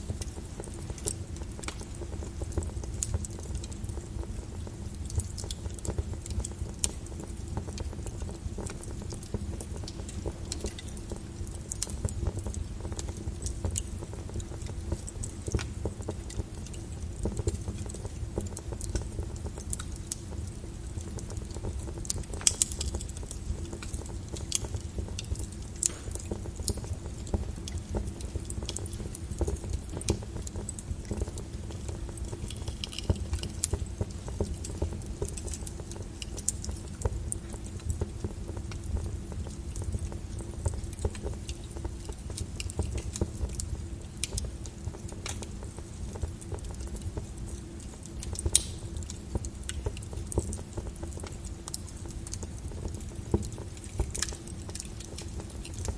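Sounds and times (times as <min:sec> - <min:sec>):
low fire rumble: 0:00.0 - 0:55.9
wood fire crackling: 0:00.0 - 0:55.9.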